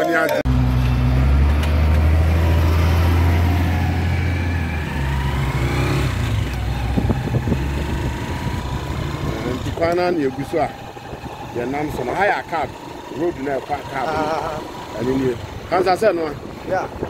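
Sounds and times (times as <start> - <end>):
vehicle engine droning: 0.2 - 17.0.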